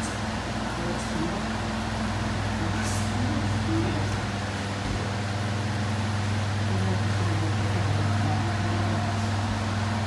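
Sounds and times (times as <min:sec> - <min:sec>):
electric fans humming: 0:00.0 - 0:10.0.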